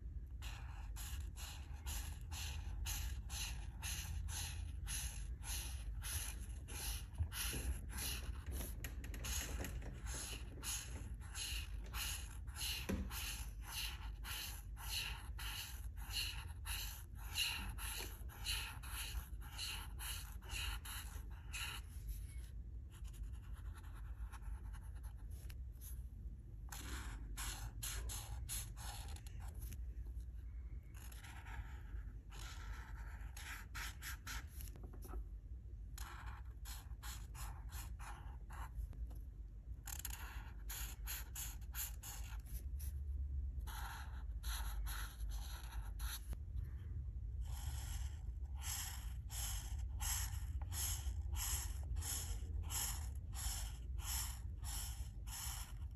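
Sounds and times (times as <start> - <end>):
marker scratching on paper: 0.2 - 30.0, 31.0 - 35.2, 35.9 - 39.2, 39.8 - 46.4, 47.4 - 55.9.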